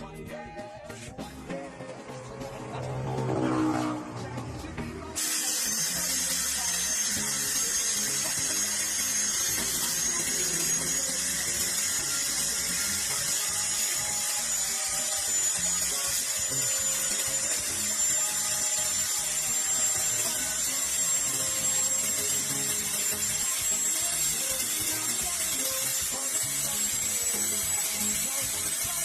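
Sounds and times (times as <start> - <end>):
background music: 0.0 - 29.0
power tool whining: 1.5 - 29.0.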